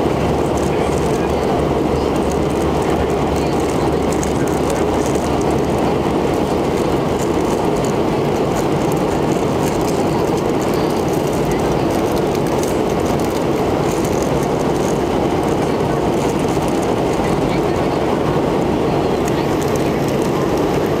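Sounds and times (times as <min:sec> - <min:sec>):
low hum of jet engines: 0:00.0 - 0:21.0.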